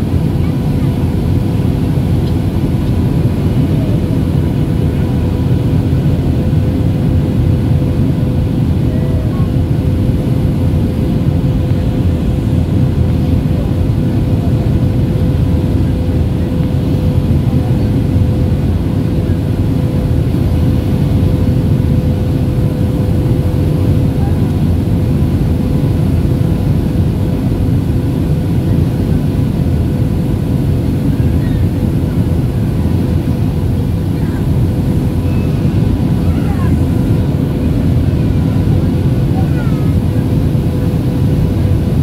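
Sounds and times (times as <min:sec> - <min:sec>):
airplane cabin airflow and engine noise: 0:00.0 - 0:42.0.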